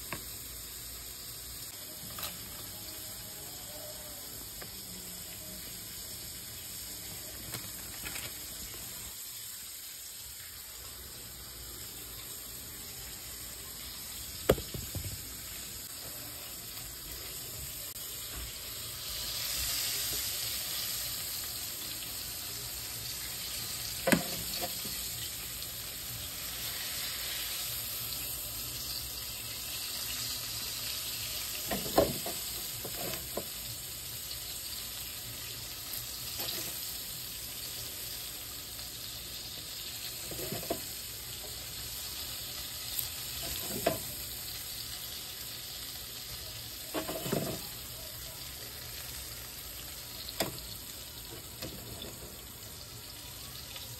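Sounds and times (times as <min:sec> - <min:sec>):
food sizzling hiss: 0:00.0 - 0:53.9.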